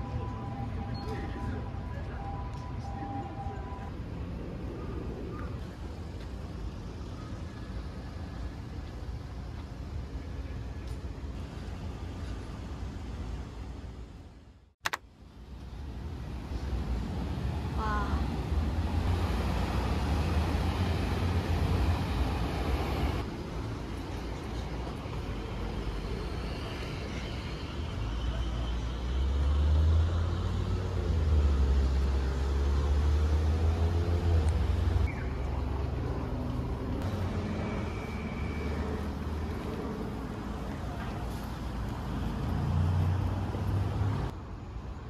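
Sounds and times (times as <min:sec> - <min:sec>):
road vehicles rumbling: 0:00.0 - 0:45.0.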